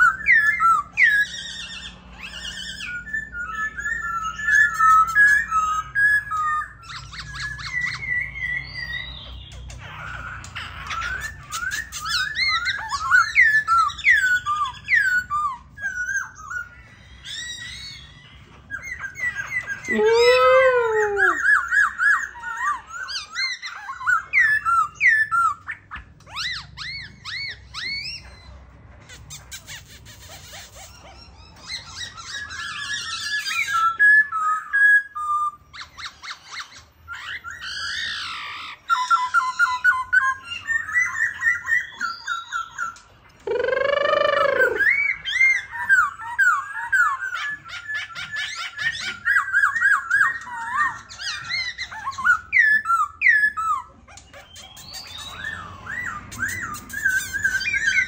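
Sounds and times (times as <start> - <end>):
bird singing whistled song: 0.0 - 28.6, 29.3 - 58.0.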